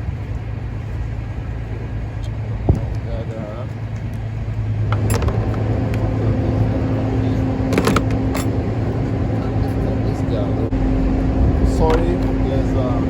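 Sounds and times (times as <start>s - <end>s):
low mechanical hum: 0.0s - 13.0s
steady higher tone: 0.0s - 13.0s.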